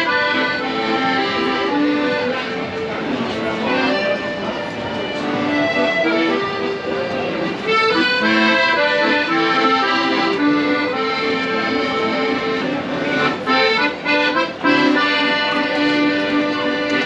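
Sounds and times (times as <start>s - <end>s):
accordion melody: 0.0s - 17.0s.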